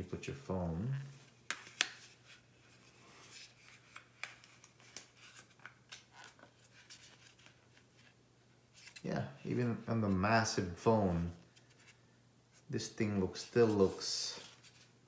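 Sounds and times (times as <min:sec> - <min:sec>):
faint low hum: 0:02.0 - 0:15.0.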